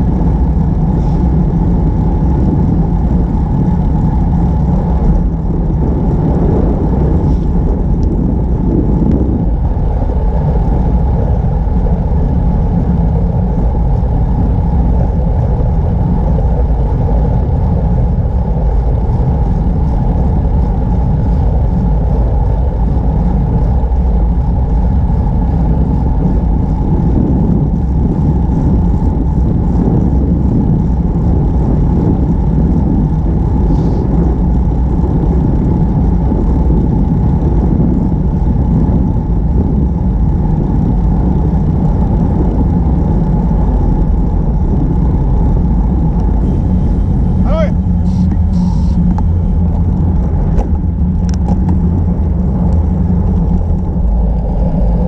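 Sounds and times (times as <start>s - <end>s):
bicycle tyre rumble on asphalt: 0.0s - 55.0s
wind on microphone: 0.0s - 55.0s.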